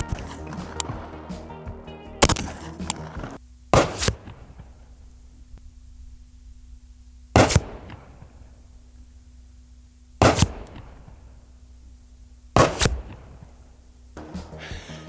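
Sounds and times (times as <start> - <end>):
shotgun slugs hitting earth: 0.0 - 1.0, 2.2 - 14.1.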